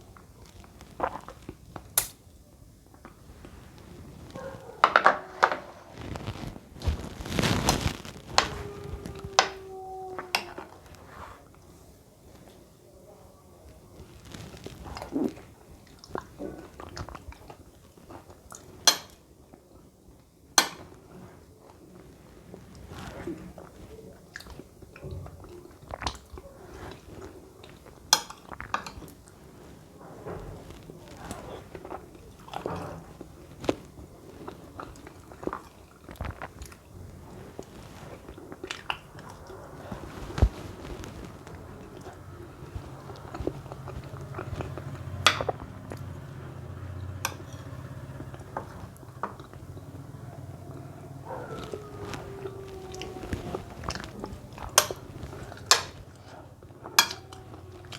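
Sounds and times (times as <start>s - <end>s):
chewing soft food: 0.0s - 57.9s.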